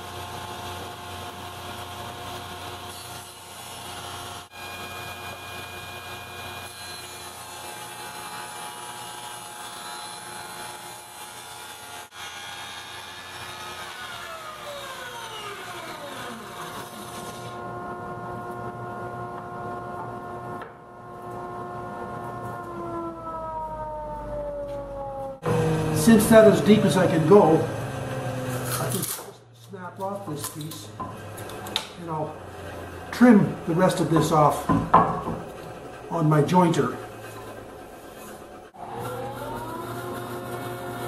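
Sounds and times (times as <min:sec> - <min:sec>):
table saw whine: 0:00.0 - 0:41.0.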